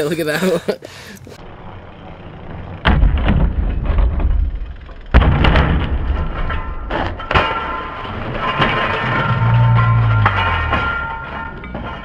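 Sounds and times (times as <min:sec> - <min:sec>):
low rumble: 0:01.4 - 0:12.0
bike crashing on ramp: 0:02.4 - 0:12.0.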